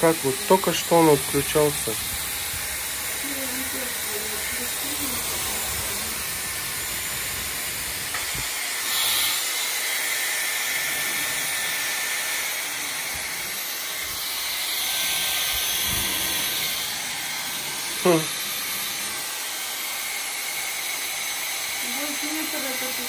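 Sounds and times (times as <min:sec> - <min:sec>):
hair styler blowing air: 0:00.0 - 0:23.0.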